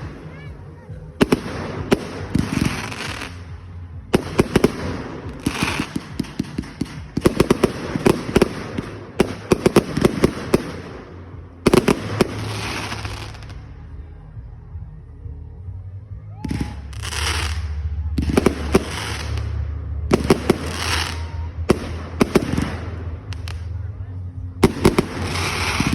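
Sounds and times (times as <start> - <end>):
fireworks banging: 1.2 - 13.7, 16.5 - 23.8, 24.6 - 25.9
fireworks crackling hiss: 1.2 - 13.7, 16.6 - 23.8, 24.6 - 25.9.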